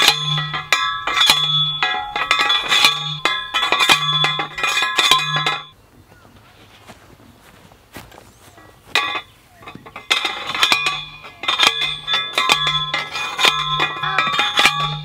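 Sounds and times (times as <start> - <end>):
post driver clanging on metal post: 0.0 - 5.8, 8.6 - 15.0.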